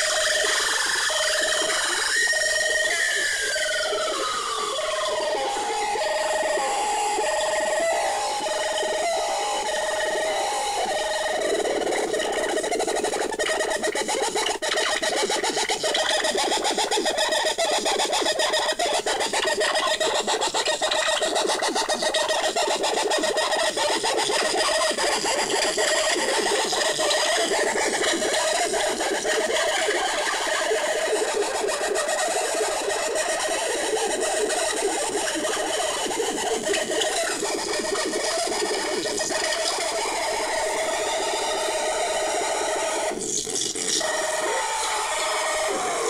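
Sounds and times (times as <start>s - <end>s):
modular synthesizer tones: 0.0s - 17.0s, 21.9s - 46.0s.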